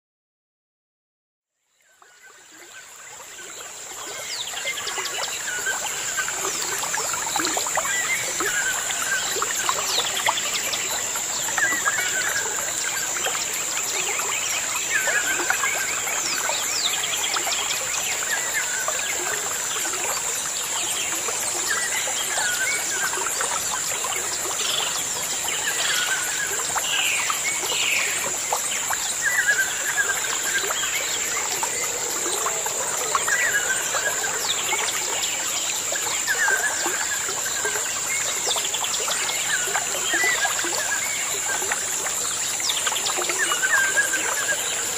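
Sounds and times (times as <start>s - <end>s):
constant high-pitched hiss: 1.6s - 44.9s.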